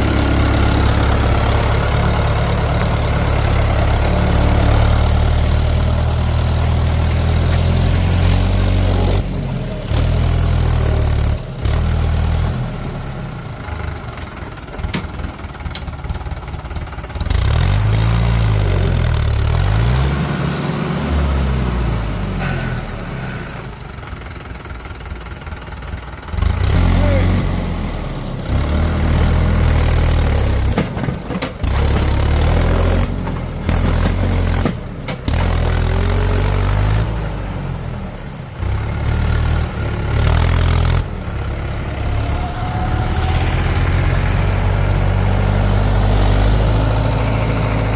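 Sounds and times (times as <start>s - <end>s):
heavy diesel engine revving: 0.0s - 14.2s, 17.2s - 23.9s, 26.1s - 47.9s.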